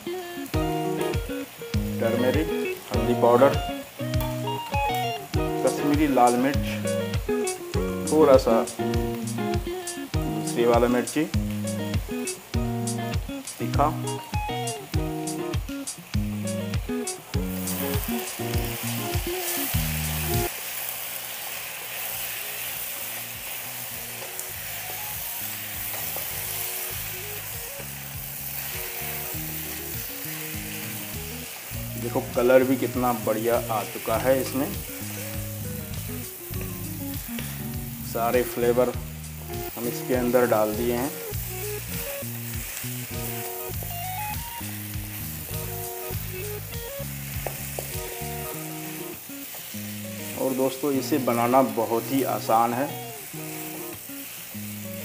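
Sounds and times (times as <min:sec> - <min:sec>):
background music: 0:00.0 - 0:20.5, 0:24.3 - 0:55.0
potatoes sizzling in a pan: 0:00.0 - 0:55.0.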